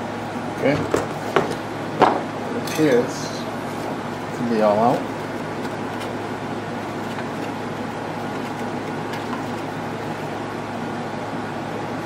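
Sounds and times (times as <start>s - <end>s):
fan noise with low hum: 0.0s - 12.0s.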